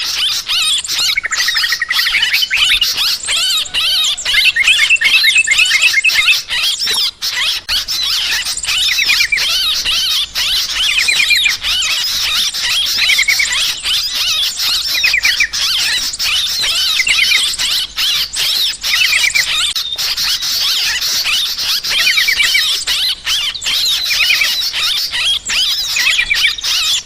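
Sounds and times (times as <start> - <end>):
bulbuls chattering chorus: 0.0 - 27.0.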